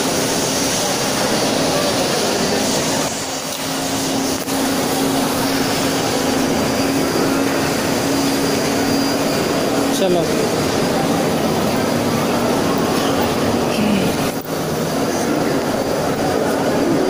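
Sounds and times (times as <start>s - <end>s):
constant low hum: 0.0s - 17.0s
crowded indoor hall noise: 0.0s - 17.0s.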